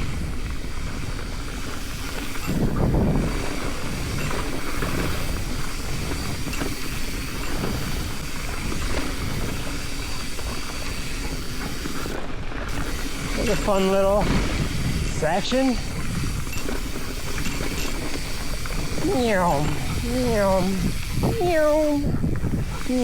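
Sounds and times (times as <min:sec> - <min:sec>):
bike clicks and rattles: 0:00.0 - 0:15.1, 0:15.7 - 0:19.0, 0:19.6 - 0:21.3
wind rushing over microphone: 0:00.0 - 0:23.0.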